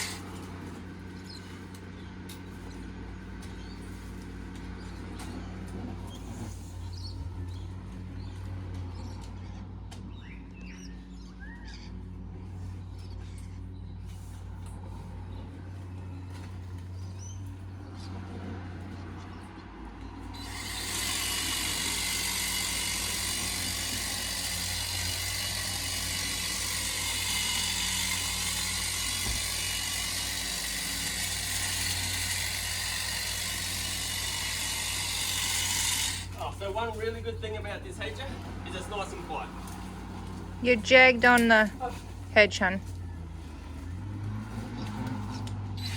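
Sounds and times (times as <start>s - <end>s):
hedge trimmer humming: 0.0s - 10.6s, 11.9s - 45.9s.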